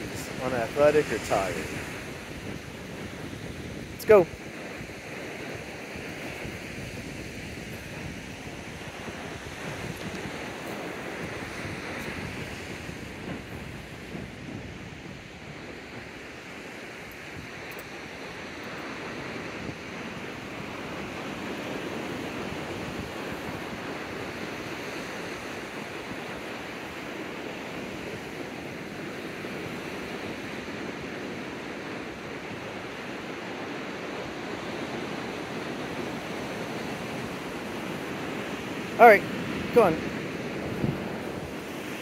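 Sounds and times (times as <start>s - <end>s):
ocean surf washing onto beach: 0.0s - 42.0s.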